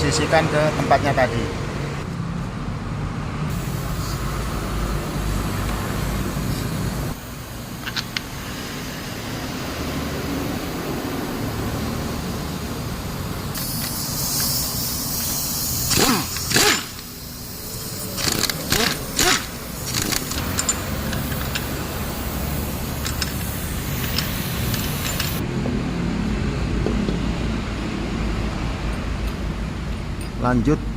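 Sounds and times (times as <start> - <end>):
workshop hum: 0.0 - 30.9.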